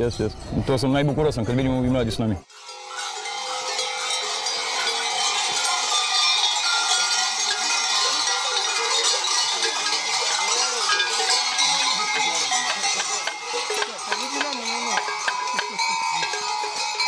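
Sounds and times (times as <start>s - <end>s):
large bells clanging: 2.5s - 17.0s.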